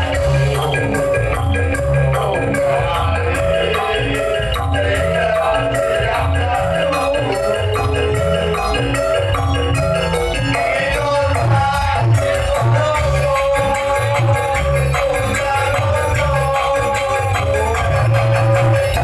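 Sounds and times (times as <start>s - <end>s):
electronic keyboard music over pa: 0.0s - 19.0s.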